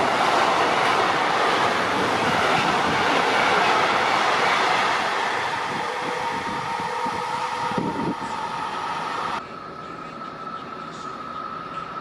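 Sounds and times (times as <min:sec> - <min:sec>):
train rushing past: 0:00.0 - 0:12.0.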